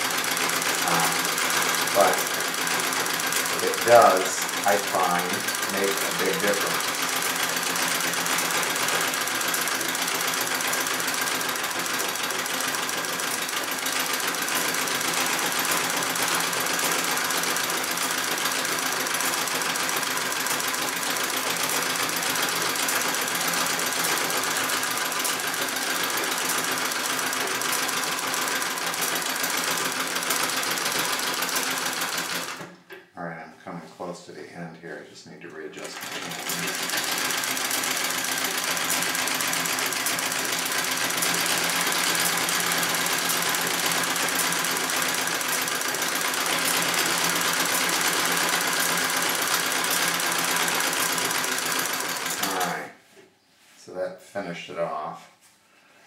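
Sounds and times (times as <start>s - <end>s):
sewing machine rattling: 0.0s - 33.0s, 35.8s - 52.9s.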